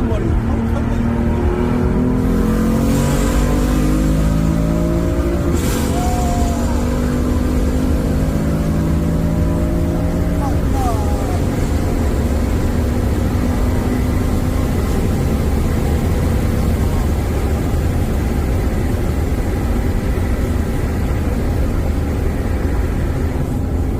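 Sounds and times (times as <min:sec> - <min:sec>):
deep car exhaust drone: 0:00.0 - 0:23.9.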